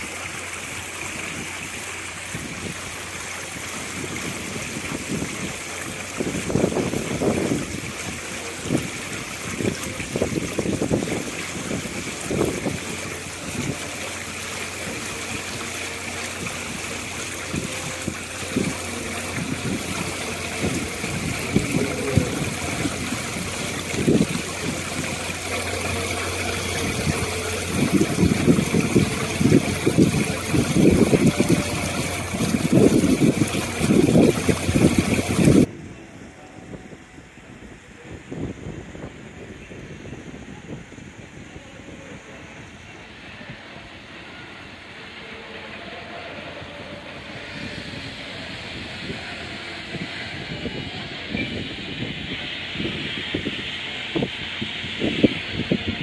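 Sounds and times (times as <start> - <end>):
water running in fountain: 0.0 - 35.8, 37.6 - 56.0.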